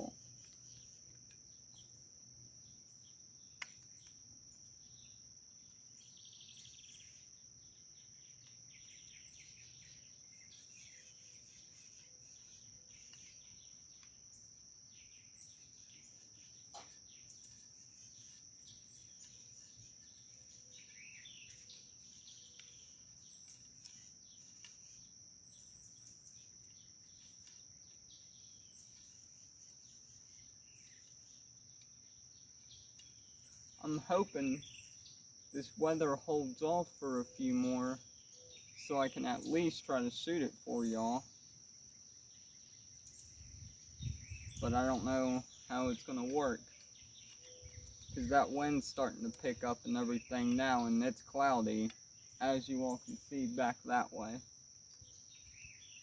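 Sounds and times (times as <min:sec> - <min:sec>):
crickets trilling: 0:00.0 - 0:56.0
bird chirps: 0:02.6 - 0:56.0.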